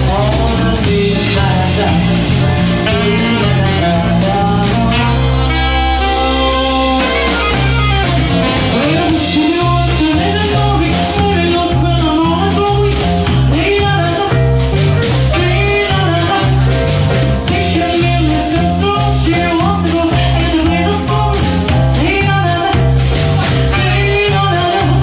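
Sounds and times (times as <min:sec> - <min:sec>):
jazz band playing: 0:00.0 - 0:25.0
stepping bass line: 0:00.0 - 0:25.0.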